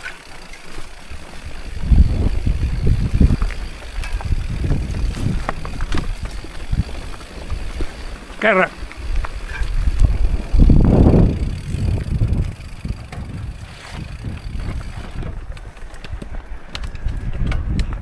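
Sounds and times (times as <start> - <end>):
bike tyres rumbling on dirt: 0.0 - 18.0
wind buffeting microphone: 1.0 - 18.0.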